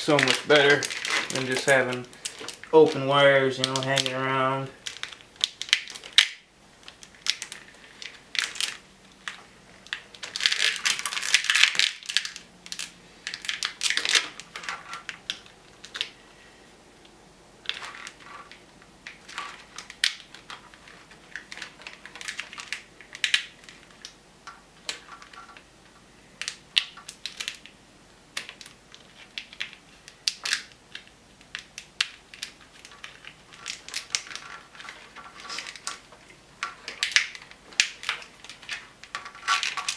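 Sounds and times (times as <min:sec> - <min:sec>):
plastic wire loom crackling: 0:00.0 - 0:39.9.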